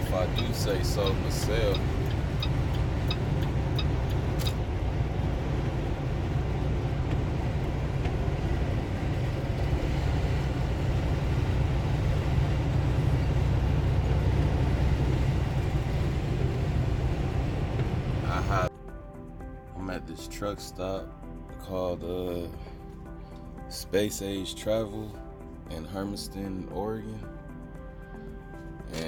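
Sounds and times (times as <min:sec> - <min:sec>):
truck engine and road noise: 0:00.0 - 0:29.0.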